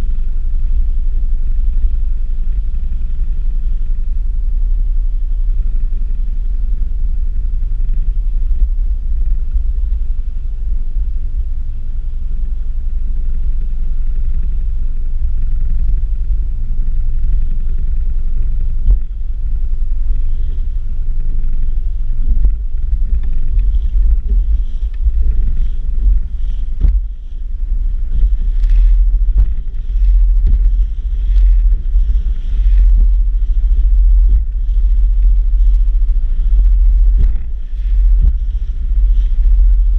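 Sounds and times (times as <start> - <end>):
boat motor running: 0.0 - 39.9
wind buffeting microphone: 0.0 - 39.9.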